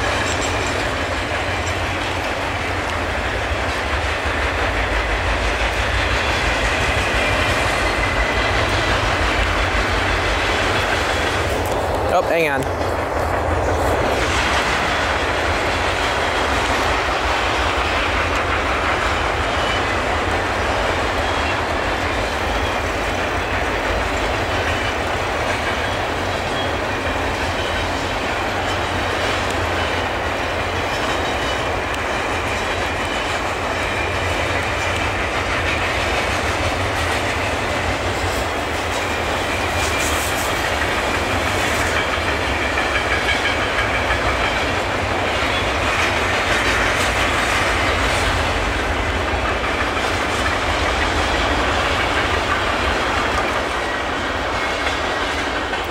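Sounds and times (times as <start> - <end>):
freight train rolling past: 0.0 - 55.9
steel wheels on rails: 0.0 - 55.9.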